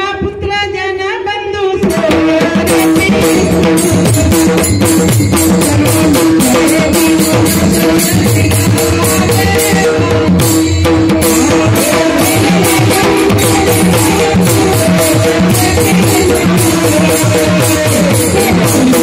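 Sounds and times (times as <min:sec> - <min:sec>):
woman's voice: 0:00.0 - 0:03.5, 0:05.7 - 0:10.3, 0:11.2 - 0:19.0
hand drums beating: 0:01.8 - 0:19.0.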